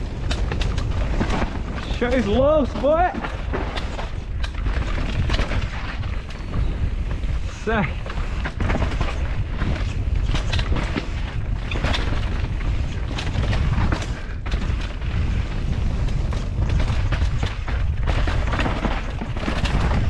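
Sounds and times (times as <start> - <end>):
bike knocks and rattles: 0.0 - 20.0
wind and tyre rumble: 0.0 - 20.0.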